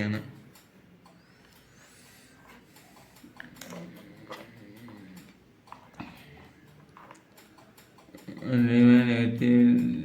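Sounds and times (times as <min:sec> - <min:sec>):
faint clicks and taps of probes: 0:00.0 - 0:08.8.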